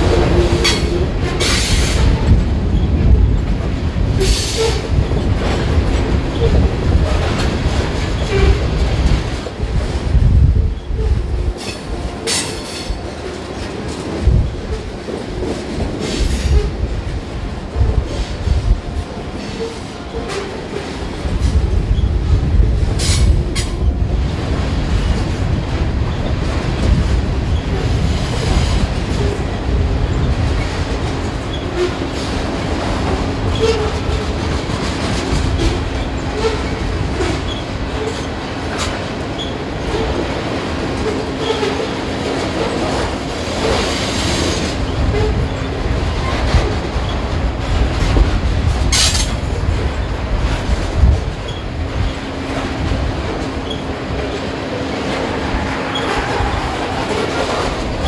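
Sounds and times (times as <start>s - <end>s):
clacks over rail joints: 0.0s - 58.0s
rumble of wheels on rail: 0.0s - 58.0s.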